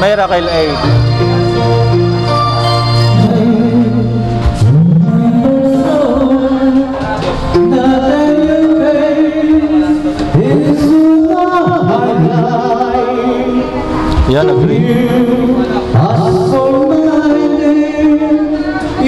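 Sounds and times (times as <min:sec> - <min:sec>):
karaoke backing track: 0:00.0 - 0:19.0
man singing into a microphone: 0:03.1 - 0:19.0.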